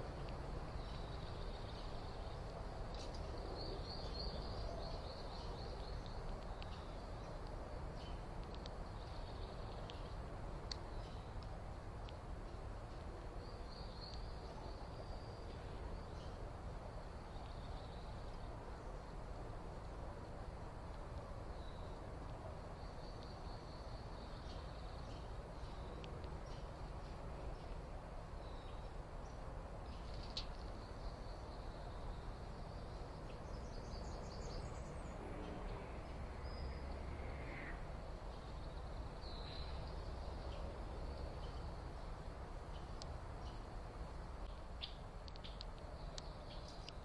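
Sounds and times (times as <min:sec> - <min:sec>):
low background hiss: 0:00.0 - 0:47.0.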